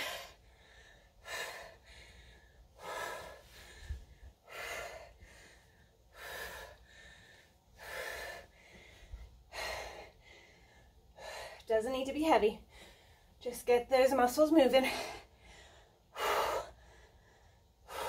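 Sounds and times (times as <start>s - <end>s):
woman breathing: 0.0s - 11.8s, 12.5s - 13.4s, 14.6s - 18.0s.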